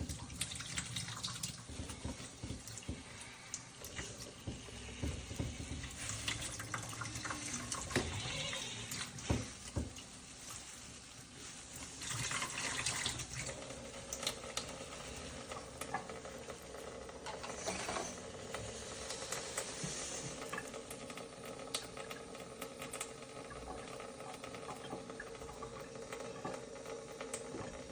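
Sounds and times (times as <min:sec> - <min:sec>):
tap water splashing into sink: 0:00.0 - 0:10.2, 0:12.0 - 0:27.9.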